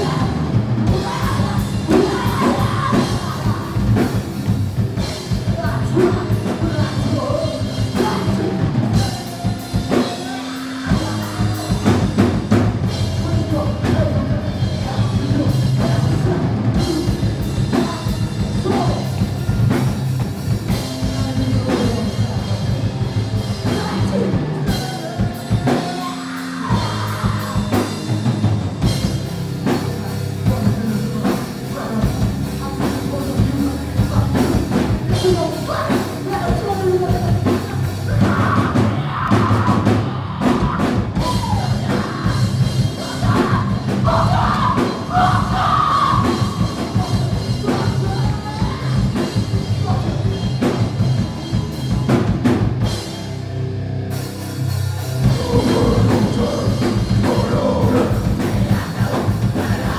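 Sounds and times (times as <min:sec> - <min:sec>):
person singing: 0:00.0 - 0:04.3, 0:05.0 - 0:19.8, 0:20.7 - 0:28.2, 0:29.6 - 0:50.8, 0:54.9 - 0:59.9
bass guitar: 0:00.0 - 0:59.9
drum kit: 0:00.0 - 0:59.9
electric guitar: 0:00.0 - 0:59.9.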